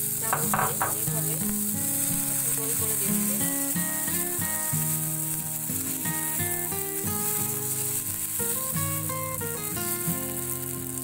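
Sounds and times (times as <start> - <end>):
batter sizzling in a hot pan: 0.0 - 11.0.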